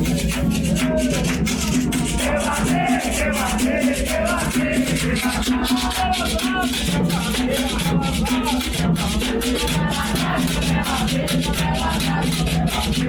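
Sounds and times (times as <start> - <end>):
shaker rattle: 0.0 - 13.0
voices singing a chant: 0.0 - 13.0.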